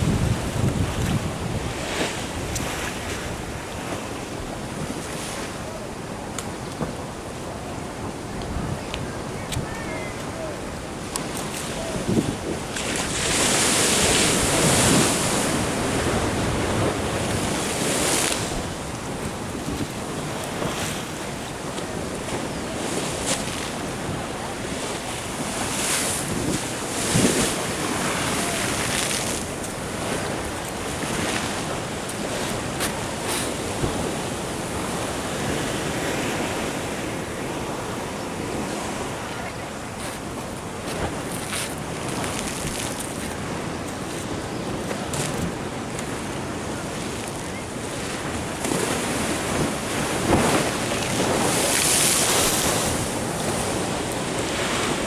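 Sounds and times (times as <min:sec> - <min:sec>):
wind buffeting microphone: 0:00.0 - 0:05.5, 0:07.9 - 0:55.0
ocean surf washing in: 0:00.0 - 0:55.0.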